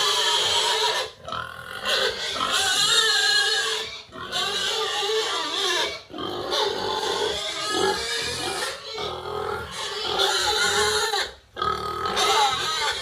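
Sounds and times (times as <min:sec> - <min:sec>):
pigs squealing: 0:00.0 - 0:13.0.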